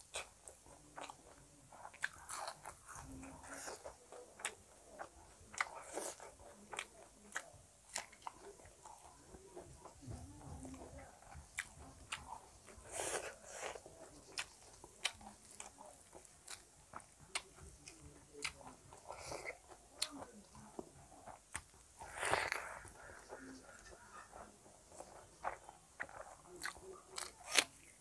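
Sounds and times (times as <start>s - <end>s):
wet chewing and mouth clicks: 0.0s - 28.0s.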